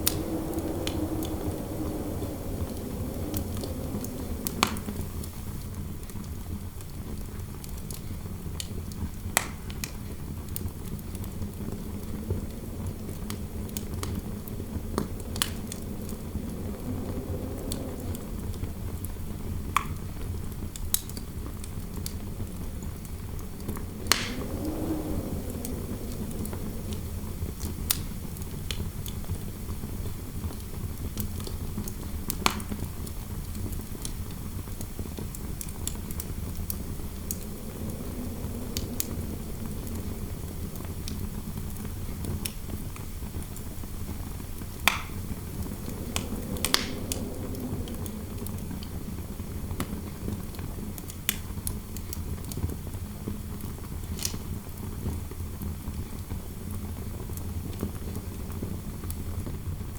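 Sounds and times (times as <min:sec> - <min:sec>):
fire crackling and popping: 0:00.0 - 0:59.9
low wind rumble: 0:00.0 - 0:59.9
soft wind howl: 0:00.0 - 0:59.9.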